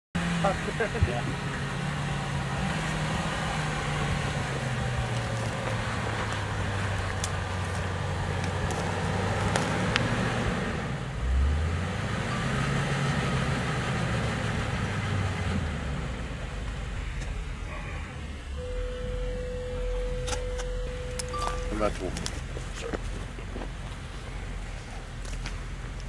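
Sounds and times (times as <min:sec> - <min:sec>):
engine running at low revs: 0:00.2 - 0:26.0.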